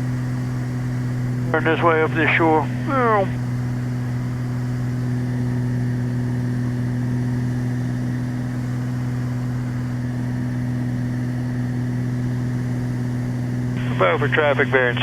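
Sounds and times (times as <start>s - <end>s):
aircraft engines droning in cockpit: 0.0s - 15.0s.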